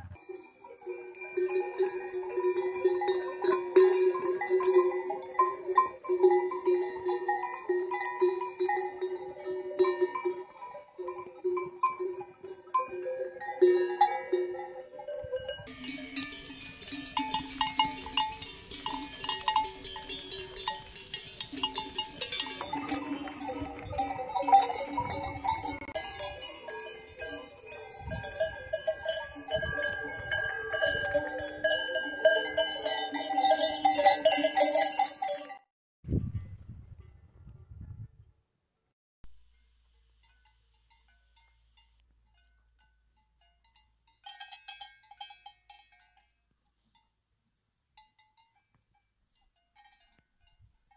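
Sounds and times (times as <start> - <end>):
sheep bells clanking: 0.0 - 35.7, 40.2 - 47.1, 48.0 - 50.9.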